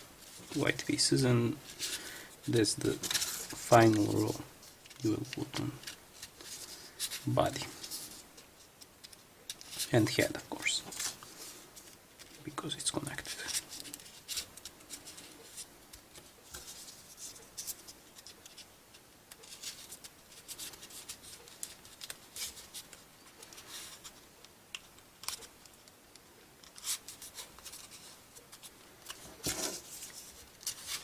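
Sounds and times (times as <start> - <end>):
folded paper rustling and clicking: 0.2 - 31.0.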